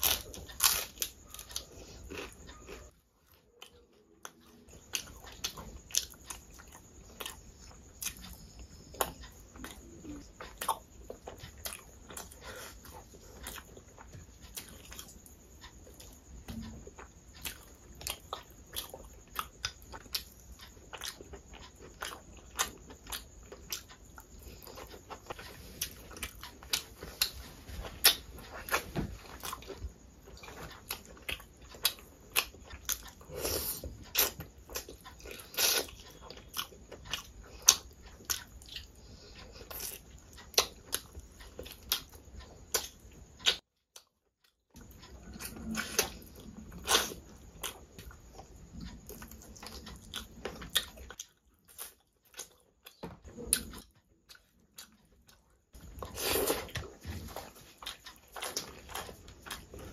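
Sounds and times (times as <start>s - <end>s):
person chewing and smacking: 0.0s - 59.9s.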